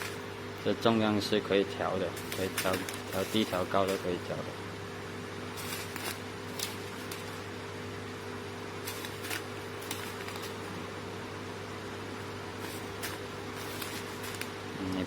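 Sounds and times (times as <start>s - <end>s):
packaging machine hum: 0.0s - 15.0s.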